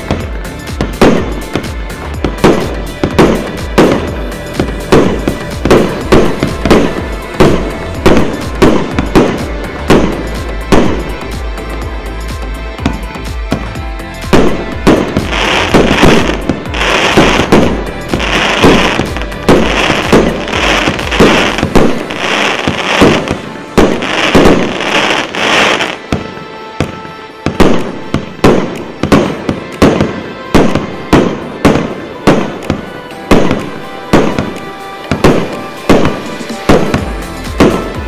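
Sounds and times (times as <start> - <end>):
sharp firework bangs: 0.0 - 11.3, 14.3 - 38.0
fireworks crackle: 0.0 - 38.0
fireworks firing: 0.0 - 38.0.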